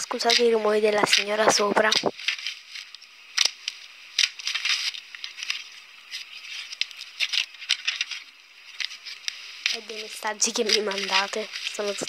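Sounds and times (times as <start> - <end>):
slime crackling and popping: 0.0 - 12.0
slime squelching: 0.0 - 12.0.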